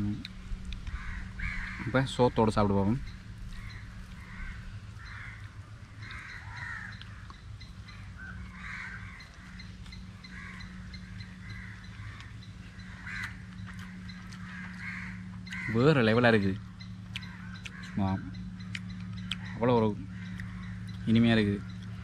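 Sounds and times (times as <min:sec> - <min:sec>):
steady low hum: 0:00.0 - 0:22.0
crows cawing: 0:00.6 - 0:22.0.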